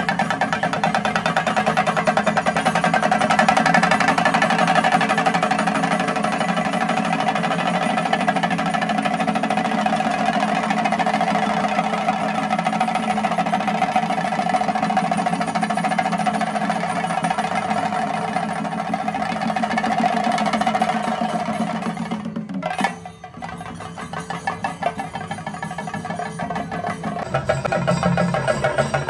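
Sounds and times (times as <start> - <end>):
drums beaten with sticks: 0.0 - 29.0.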